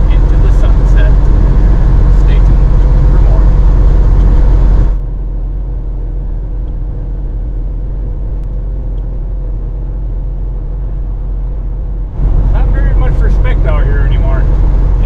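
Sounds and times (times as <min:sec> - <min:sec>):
truck engine and road drone: 0:00.0 - 0:15.0.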